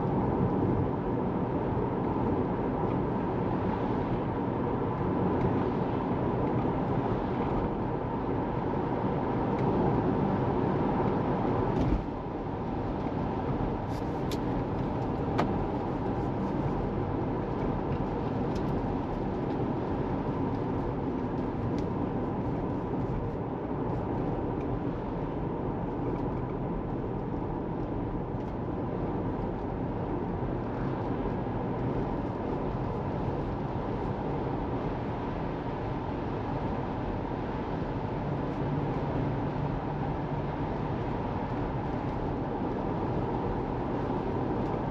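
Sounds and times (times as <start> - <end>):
road and tyre noise: 0.0 - 44.9.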